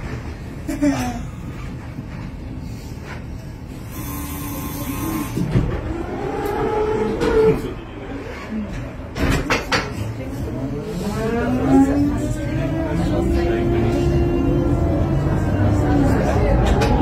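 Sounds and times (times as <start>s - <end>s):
tram wheels rumbling on rails: 0.0s - 4.1s, 4.7s - 17.0s.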